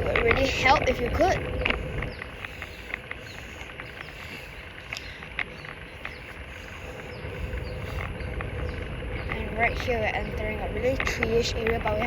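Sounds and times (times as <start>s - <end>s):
bicycle clicks and rattles: 0.0s - 12.0s
bicycle tyre and wind rumble: 0.0s - 12.0s.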